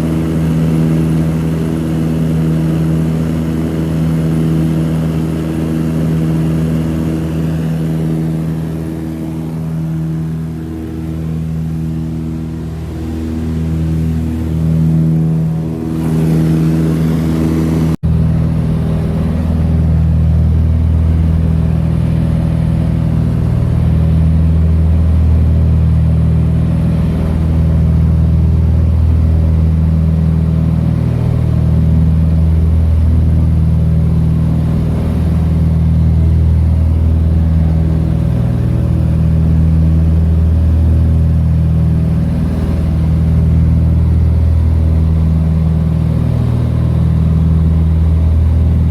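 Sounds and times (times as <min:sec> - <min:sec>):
aircraft engine drone: 0:00.0 - 0:48.9.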